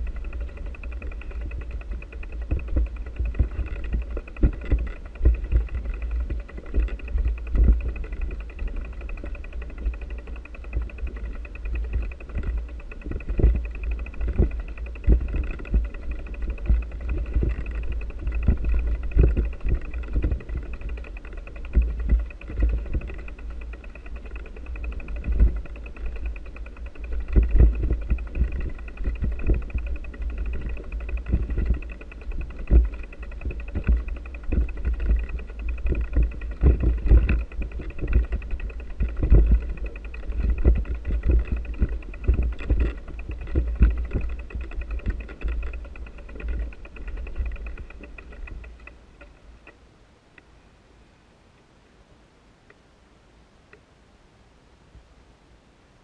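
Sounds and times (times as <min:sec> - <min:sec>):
faint steady whine: 0:00.0 - 0:56.0.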